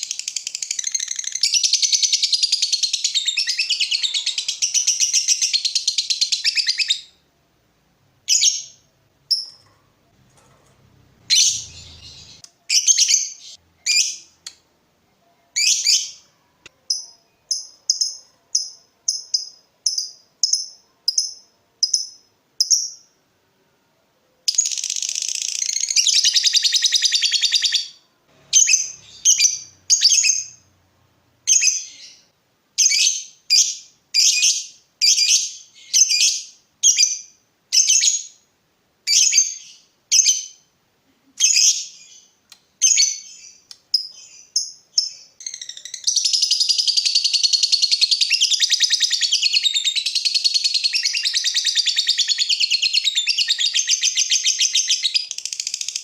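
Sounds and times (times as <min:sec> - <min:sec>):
lovebird chirping: 0:00.0 - 0:07.3, 0:08.2 - 0:09.8, 0:11.0 - 0:14.6, 0:15.2 - 0:23.2, 0:24.4 - 0:30.8, 0:31.4 - 0:38.4, 0:39.1 - 0:40.7, 0:41.4 - 0:56.0.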